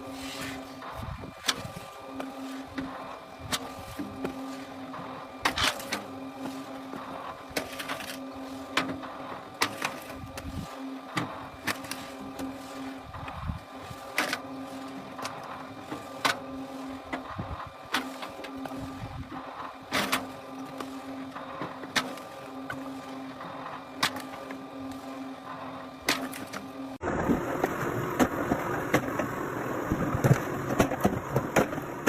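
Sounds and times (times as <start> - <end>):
wood-splitting machine humming: 0.0 - 32.0.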